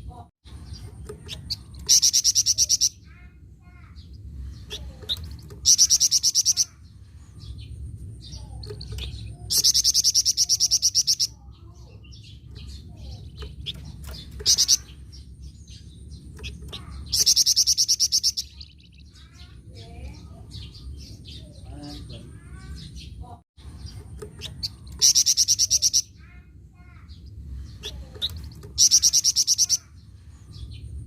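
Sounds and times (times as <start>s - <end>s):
soft chirps of other birds: 0.0s - 31.0s
bird singing fast trills: 0.5s - 31.0s.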